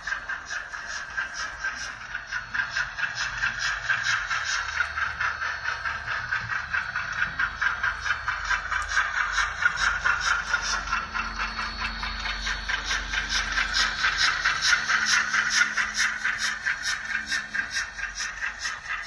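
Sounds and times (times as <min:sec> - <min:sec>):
model steam locomotive chuffing: 0:00.0 - 0:19.0.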